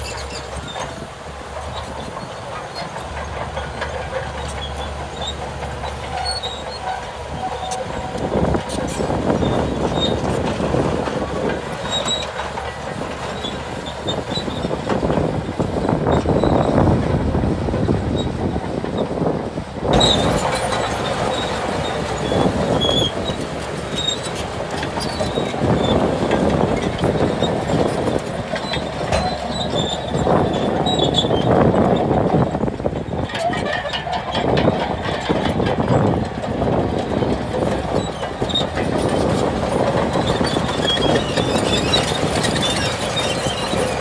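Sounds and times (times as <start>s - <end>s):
bulldozer engine under load: 0.0s - 44.0s
steel tracks clanking and squealing: 0.0s - 44.0s.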